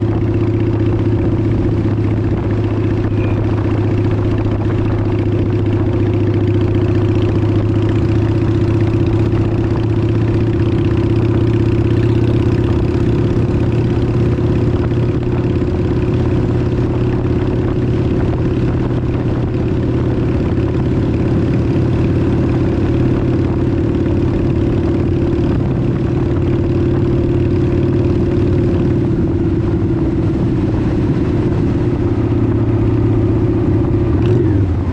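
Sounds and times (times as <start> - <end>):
motorcycle engine running steadily: 0.0 - 34.9.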